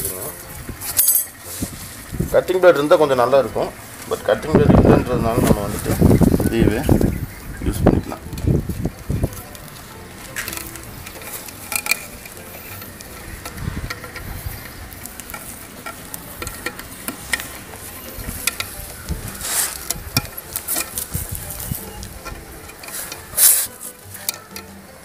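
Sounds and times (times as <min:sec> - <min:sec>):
wire scratching on wood and rope: 0:00.0 - 0:24.9.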